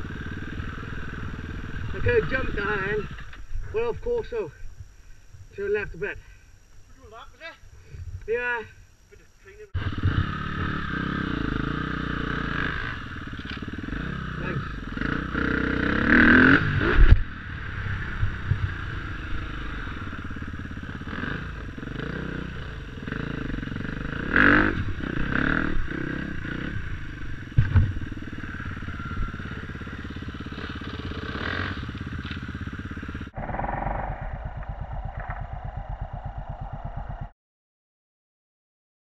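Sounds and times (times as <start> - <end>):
dirt bike engine running: 0.0 - 4.4, 9.8 - 37.4.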